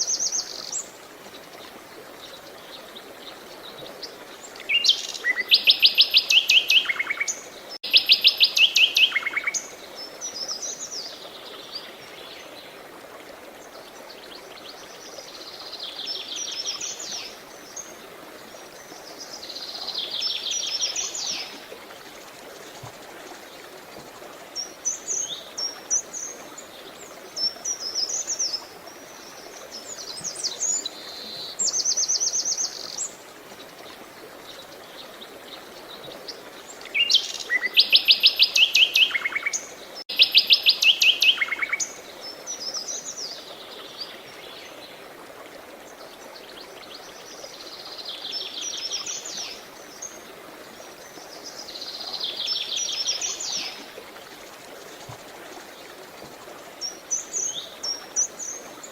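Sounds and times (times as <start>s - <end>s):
running water hiss: 0.0s - 58.9s.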